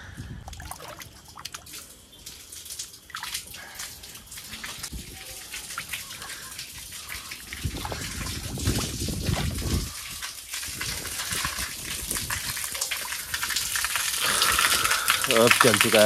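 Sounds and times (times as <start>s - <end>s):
feet splashing through water: 0.4s - 16.0s.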